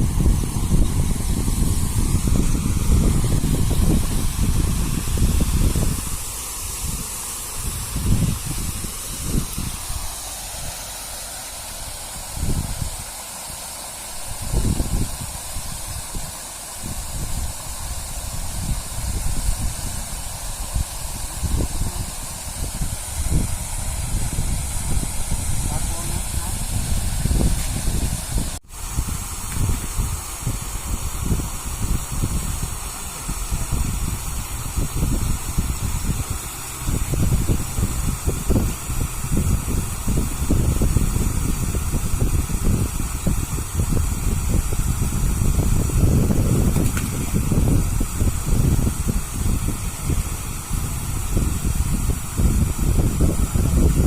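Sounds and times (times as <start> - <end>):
steady high hiss: 0.0 - 54.0
wind buffeting microphone: 0.0 - 54.0.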